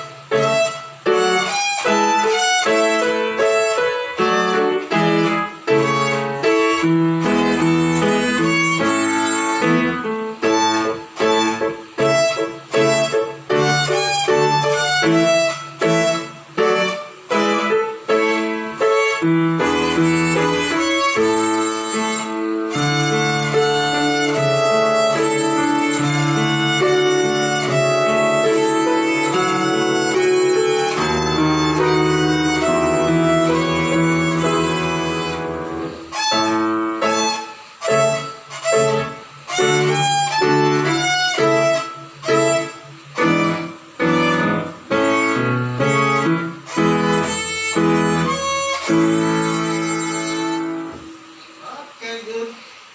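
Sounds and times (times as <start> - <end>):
violin melody: 0.0 - 51.6.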